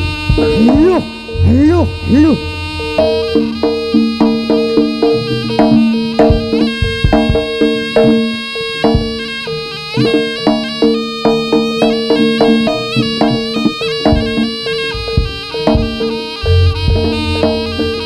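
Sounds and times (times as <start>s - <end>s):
drum strokes: 0.0s - 18.0s
nasal reed pipe melody: 0.0s - 18.0s
steady held note: 0.0s - 18.0s.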